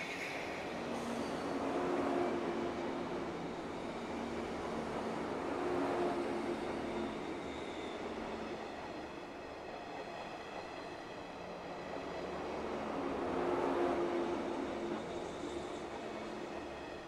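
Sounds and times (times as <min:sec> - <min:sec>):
steady train tones: 0:00.0 - 0:17.0
train wheels rumbling on rail: 0:00.0 - 0:17.0.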